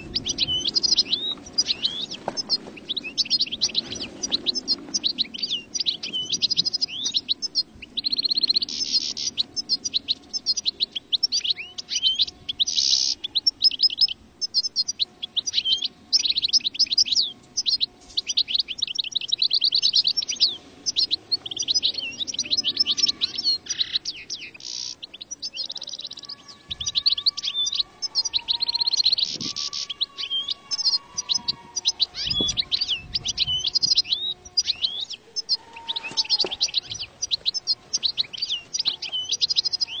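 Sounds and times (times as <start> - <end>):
bird twittering song: 0.0 - 40.0.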